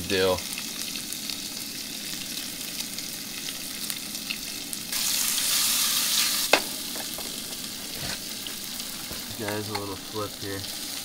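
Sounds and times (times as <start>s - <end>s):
fish sizzling in a frying pan: 0.0s - 11.0s.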